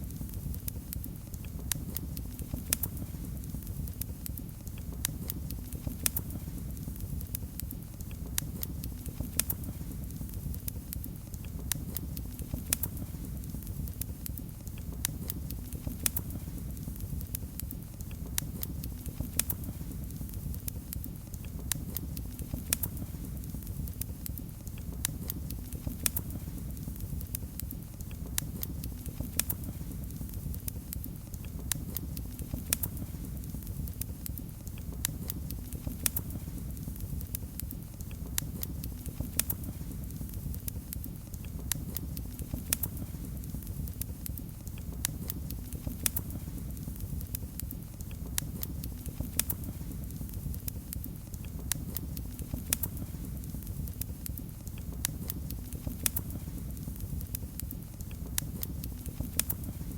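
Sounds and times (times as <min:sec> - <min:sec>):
low rumble of burning fire: 0:00.0 - 0:59.9
wood fire crackling and popping: 0:00.0 - 0:59.9.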